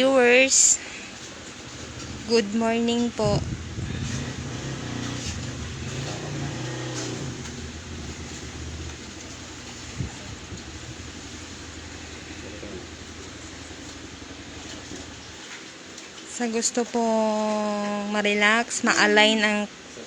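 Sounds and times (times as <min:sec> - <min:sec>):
low mechanical hum: 0:00.0 - 0:18.6.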